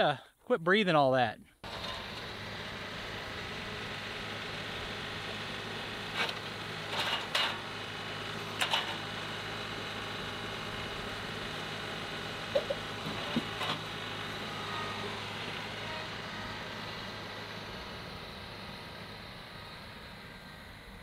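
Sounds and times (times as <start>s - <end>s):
tractor diesel engine running: 1.6s - 21.0s.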